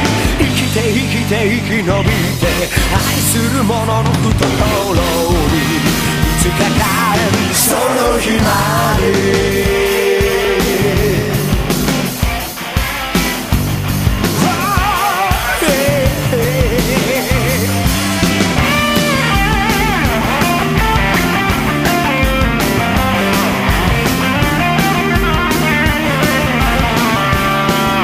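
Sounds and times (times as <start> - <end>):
bass guitar: 0.0 - 28.0
steady drums: 0.0 - 28.0
wavering electric guitar lead: 0.0 - 28.0.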